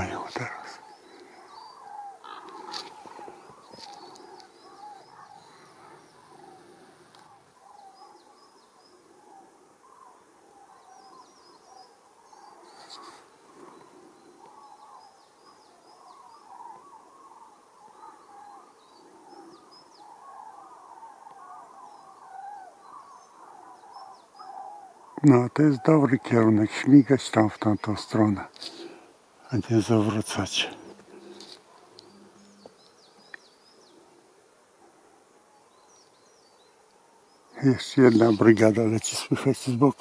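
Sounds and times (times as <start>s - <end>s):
cranes calling: 0.0s - 40.0s
small birds chirping: 0.0s - 40.0s.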